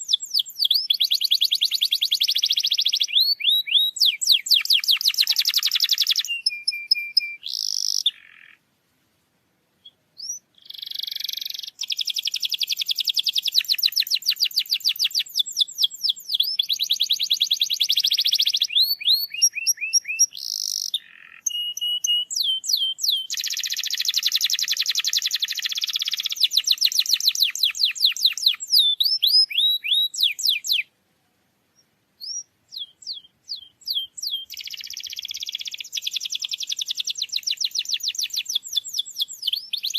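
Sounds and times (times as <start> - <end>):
canary singing trills: 0.0 - 8.6, 9.8 - 30.9, 31.7 - 39.9.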